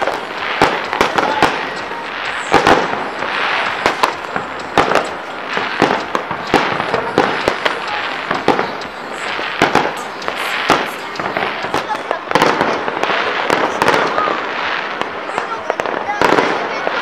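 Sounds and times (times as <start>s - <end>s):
fireworks bangs and pops: 0.0s - 17.0s
fireworks crackle: 0.0s - 17.0s.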